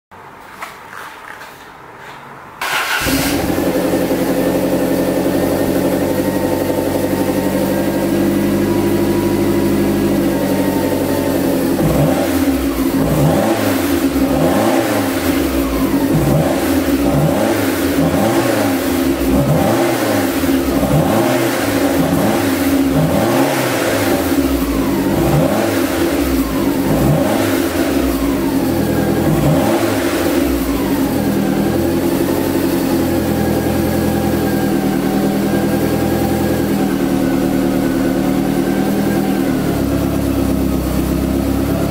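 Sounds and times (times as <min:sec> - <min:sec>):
car engine revving and idling: 0:02.6 - 0:41.9.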